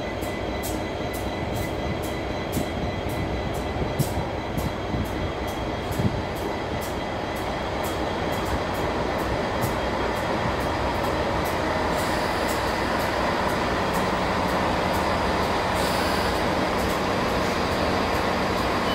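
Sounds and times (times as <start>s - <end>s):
train running noise: 0.0s - 18.9s.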